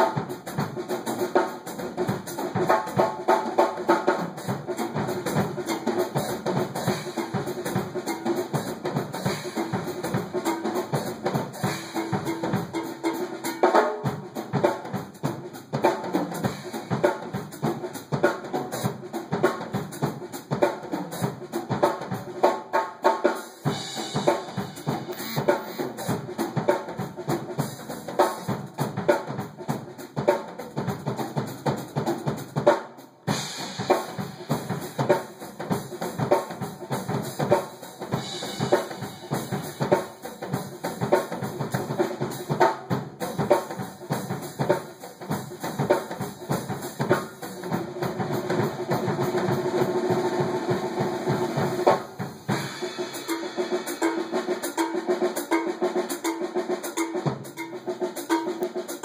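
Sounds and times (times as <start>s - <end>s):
acoustic drum kit groove: 0.0s - 59.0s.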